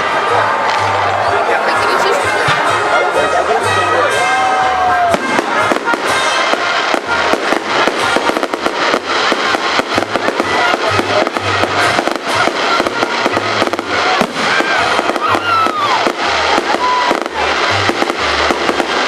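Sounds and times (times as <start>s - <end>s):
fireworks crackling bangs: 0.0s - 19.0s
music playing: 0.0s - 19.0s.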